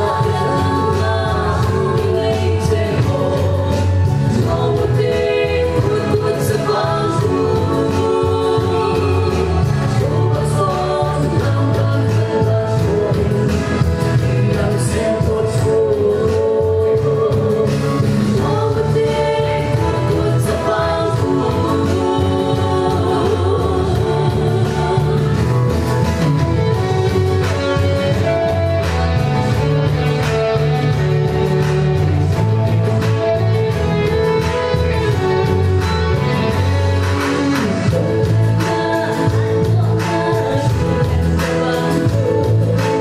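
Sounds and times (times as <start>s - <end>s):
woman singing into microphone: 0.0s - 28.4s, 36.9s - 43.0s
amplified music with bass and beat: 0.0s - 43.0s.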